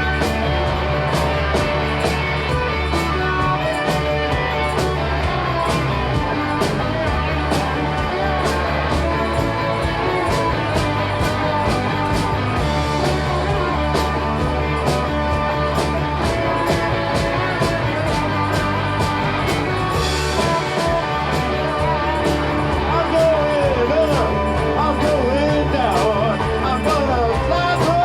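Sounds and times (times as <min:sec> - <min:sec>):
drums keeping a steady beat: 0:00.0 - 0:28.0
electric guitars: 0:00.0 - 0:28.0
organ: 0:00.0 - 0:28.0.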